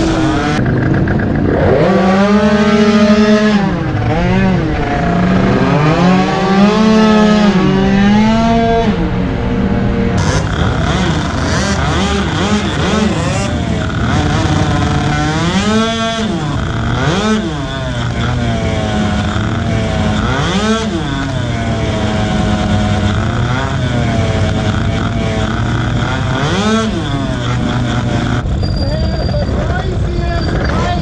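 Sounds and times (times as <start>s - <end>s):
motorcycle engine revving: 0.0s - 31.0s
wind and road rush: 0.0s - 31.0s.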